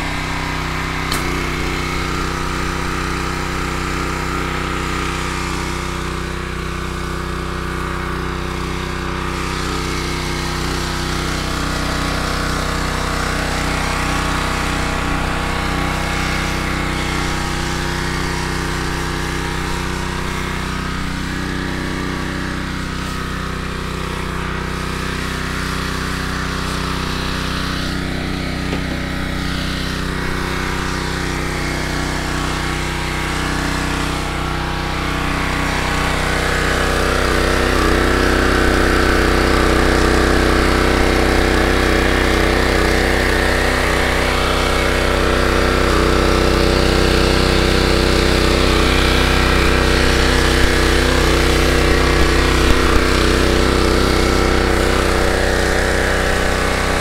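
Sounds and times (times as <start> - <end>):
pressure washer engine running: 0.0 - 57.0.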